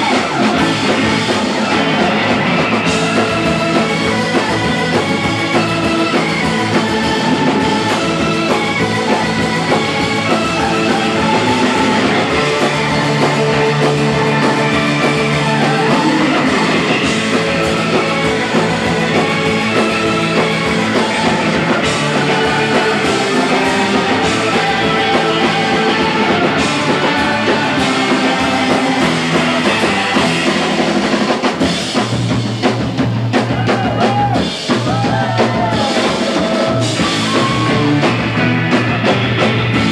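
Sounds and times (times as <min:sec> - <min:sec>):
surf rock band playing loudly: 0:00.0 - 0:39.9.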